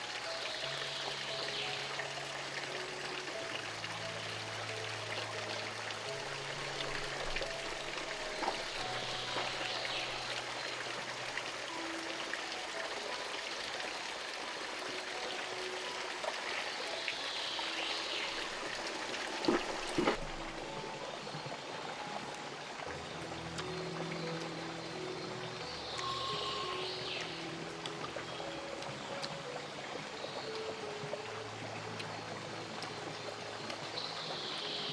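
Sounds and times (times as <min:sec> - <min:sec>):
running water rushing: 0:00.0 - 0:34.9
soft background music: 0:00.0 - 0:34.9.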